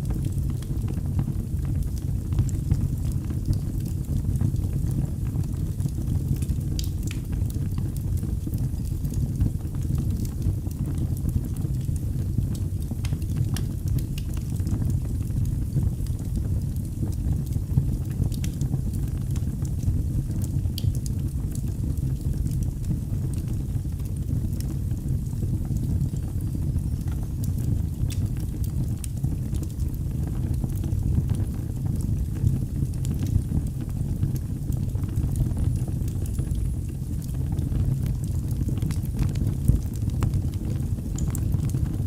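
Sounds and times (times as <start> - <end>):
fire crackling and popping: 0.0 - 42.0
fire low rumble: 0.0 - 42.0.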